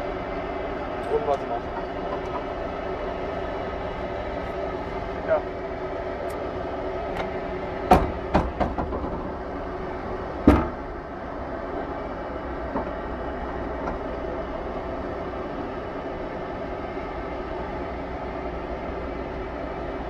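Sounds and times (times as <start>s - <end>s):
engine drone: 0.0s - 20.0s.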